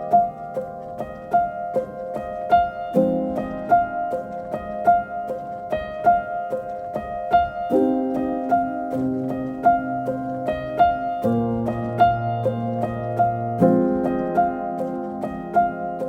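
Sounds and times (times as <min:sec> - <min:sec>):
light piano melody: 0:00.0 - 0:16.0.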